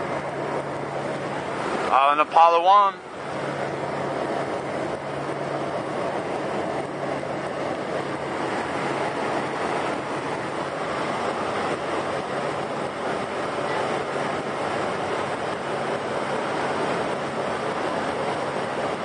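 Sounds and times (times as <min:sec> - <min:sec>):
engine and airflow rush: 0:00.0 - 0:19.0.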